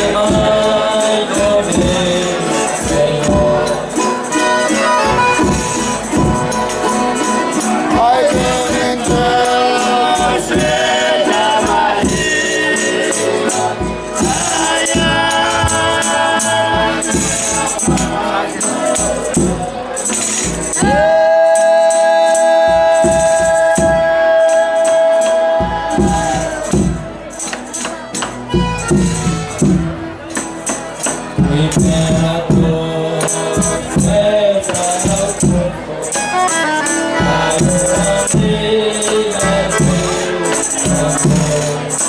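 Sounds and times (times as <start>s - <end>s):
rhythmic percussion with jingles: 0.0s - 42.0s
voices singing folk song: 0.0s - 42.0s.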